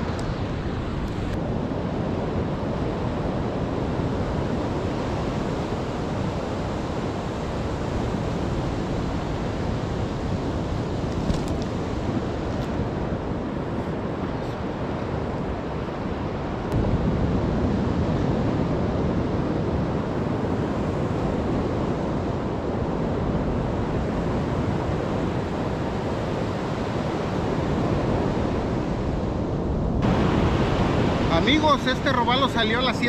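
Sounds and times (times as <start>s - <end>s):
ocean surf breaking: 0.0s - 33.0s
wind on microphone: 0.0s - 33.0s.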